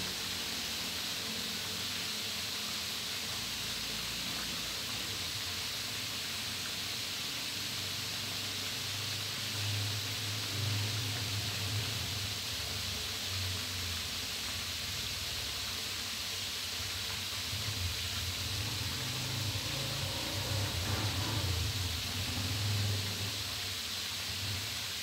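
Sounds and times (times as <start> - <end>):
deep-frying sizzle: 0.0 - 25.0.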